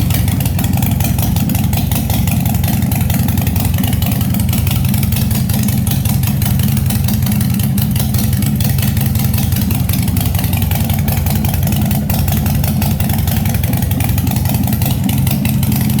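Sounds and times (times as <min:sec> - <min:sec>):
motorcycle engine idling loudly: 0:00.0 - 0:16.0.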